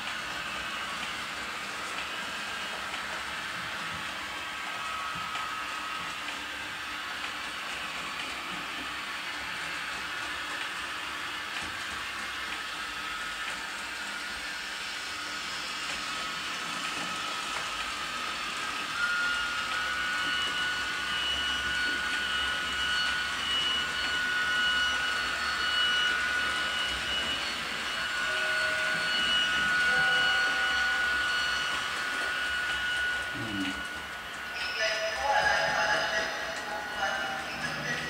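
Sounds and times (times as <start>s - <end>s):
high motor whine: 0.0s - 38.0s
model train whirring: 0.0s - 38.0s.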